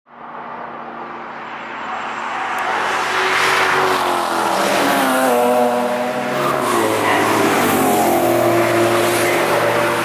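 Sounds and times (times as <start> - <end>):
race cars passing at speed: 0.1 - 10.0.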